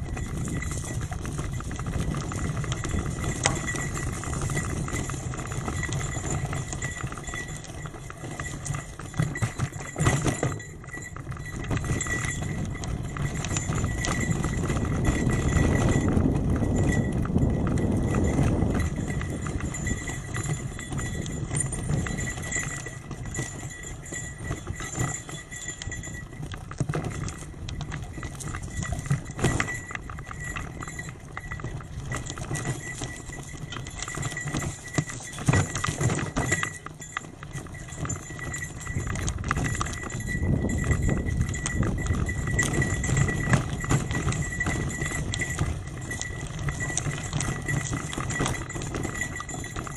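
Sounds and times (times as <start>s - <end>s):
bicycle rattling over gravel: 0.0s - 49.9s.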